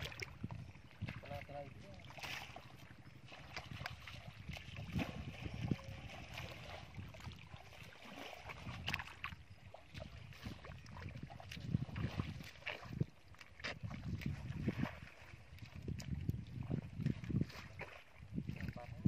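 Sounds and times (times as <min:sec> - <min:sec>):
muddy water splashing: 0:00.0 - 0:19.0
mud squelching: 0:02.0 - 0:18.8.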